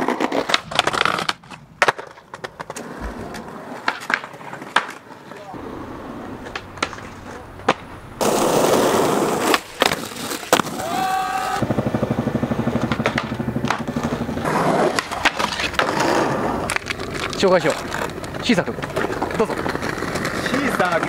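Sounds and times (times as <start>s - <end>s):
skateboard clacks popping and landing: 0.0s - 5.5s, 6.4s - 10.8s, 12.8s - 21.0s
skateboard wheels rolling on concrete: 0.0s - 21.0s.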